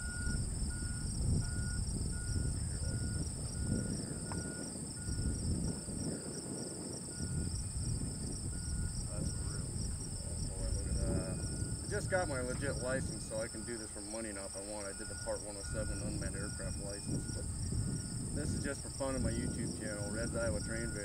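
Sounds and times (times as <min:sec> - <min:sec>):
faint high beep: 0:00.0 - 0:05.8, 0:08.6 - 0:21.0
insects buzzing in chorus: 0:00.0 - 0:21.0
wind rumble on microphone: 0:00.0 - 0:21.0.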